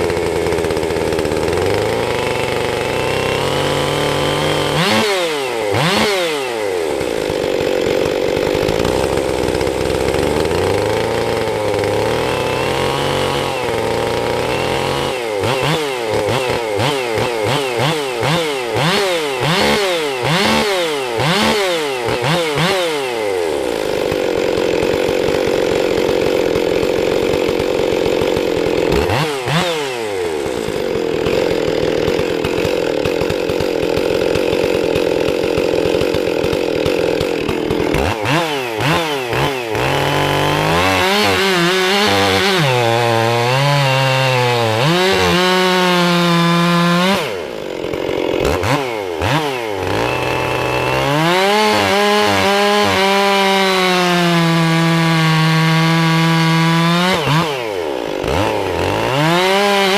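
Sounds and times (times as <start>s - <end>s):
chainsaw cutting: 0.0s - 59.9s.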